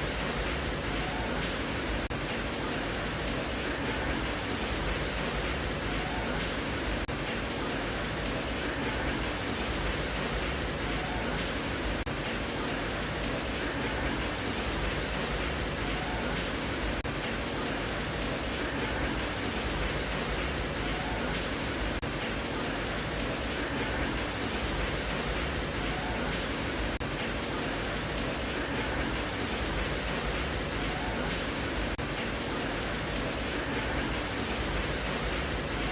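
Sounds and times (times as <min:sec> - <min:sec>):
steady rain: 0:00.0 - 0:35.9.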